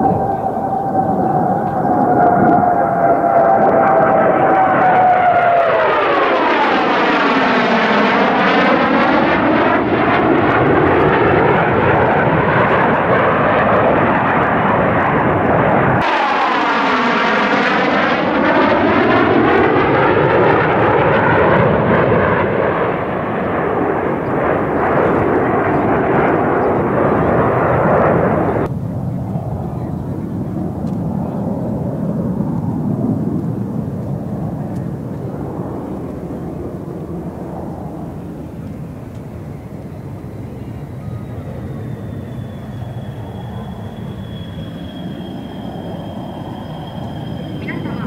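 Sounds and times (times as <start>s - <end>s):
jet aircraft roaring past: 0.0s - 48.0s.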